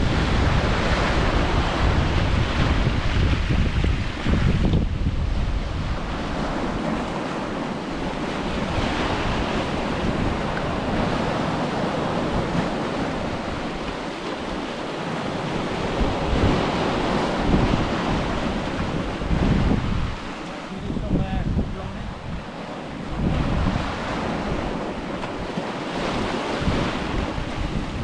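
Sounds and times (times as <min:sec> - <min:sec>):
ocean surf on a beach: 0:00.0 - 0:28.0
wind buffeting microphone: 0:00.0 - 0:28.0.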